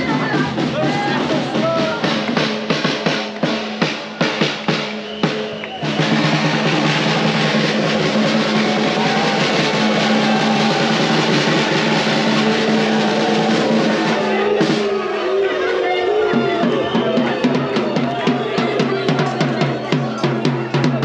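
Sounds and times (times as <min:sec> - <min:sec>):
drums beating steady rhythm: 0:00.0 - 0:21.0.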